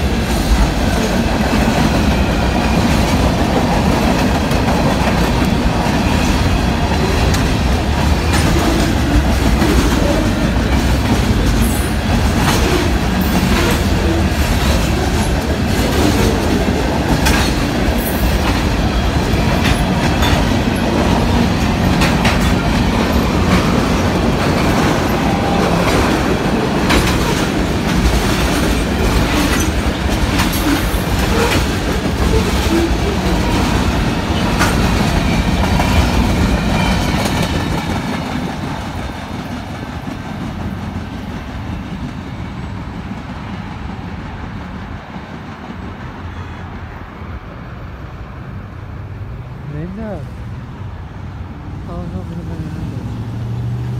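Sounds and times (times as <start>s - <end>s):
wheels clacking over rail joints: 0.0s - 46.6s
train wheels rumbling: 0.0s - 53.9s.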